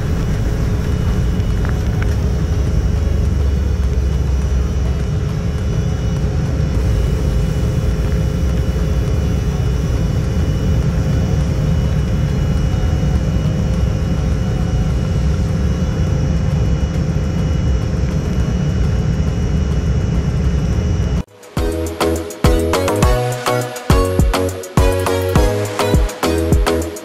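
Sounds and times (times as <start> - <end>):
jet engine drone: 0.0 - 27.0
jet engine whining tones: 0.0 - 27.0.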